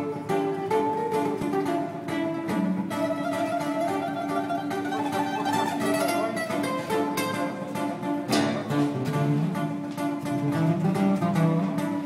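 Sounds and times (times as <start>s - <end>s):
fingerstyle classical guitar: 0.0s - 12.0s.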